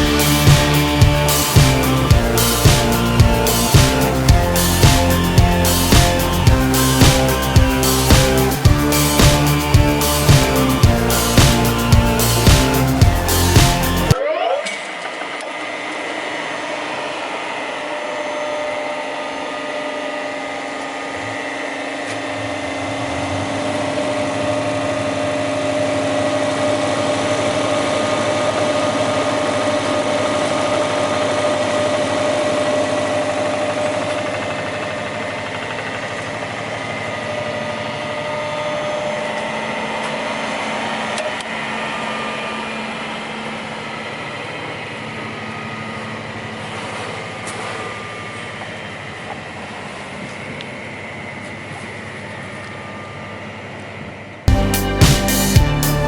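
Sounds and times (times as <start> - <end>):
machine whine and hum: 0.0 - 56.0.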